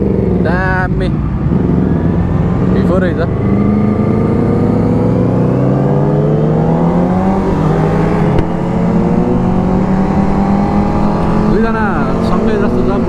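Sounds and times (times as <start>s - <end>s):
low engine drone: 0.0s - 13.0s
motorcycle engine revving up: 0.0s - 13.0s.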